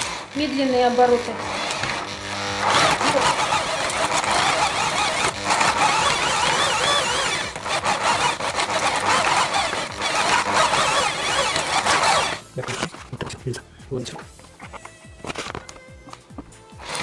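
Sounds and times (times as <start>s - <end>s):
electric drill motor whining: 0.0s - 13.0s, 14.5s - 17.0s
meat grinder grinding: 0.0s - 13.4s, 14.4s - 17.0s.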